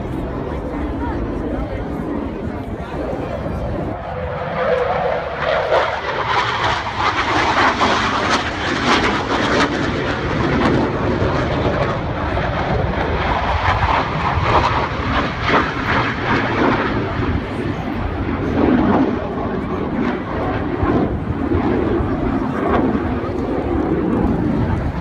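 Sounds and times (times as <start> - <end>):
jet flying past: 0.0 - 25.0.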